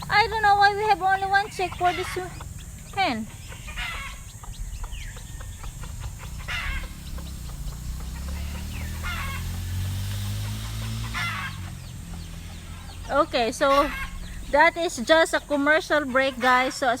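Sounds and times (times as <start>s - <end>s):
low hum: 0.0s - 16.6s
chickens clucking: 0.0s - 17.0s.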